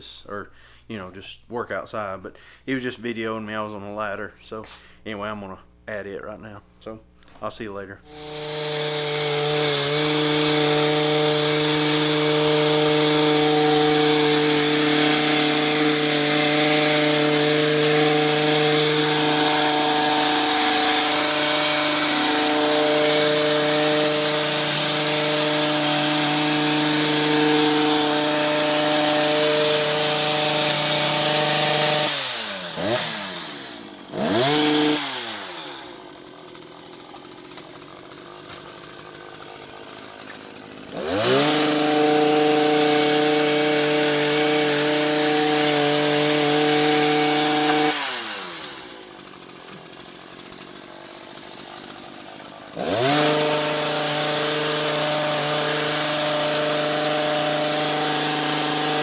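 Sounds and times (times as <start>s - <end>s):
hedge trimmer engine revving: 8.0s - 59.0s.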